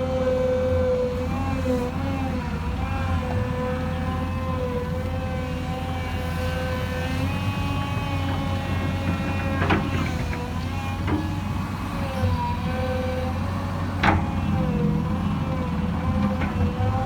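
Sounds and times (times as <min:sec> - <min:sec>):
excavator engine rumble: 0:00.0 - 0:17.0.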